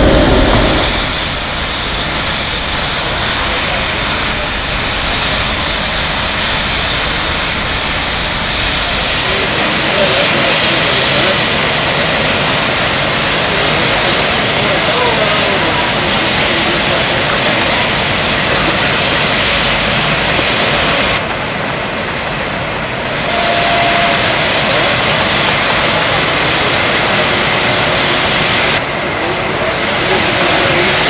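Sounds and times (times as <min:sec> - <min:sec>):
steam hissing from locomotive: 0:00.0 - 0:31.0.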